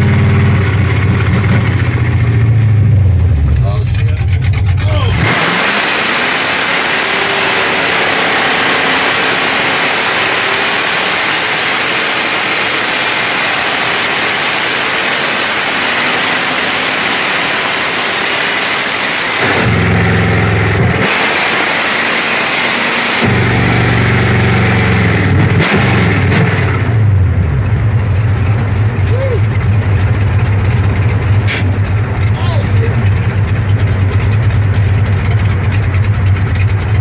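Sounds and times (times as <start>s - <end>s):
car engine roaring at high revs: 0.0s - 37.0s.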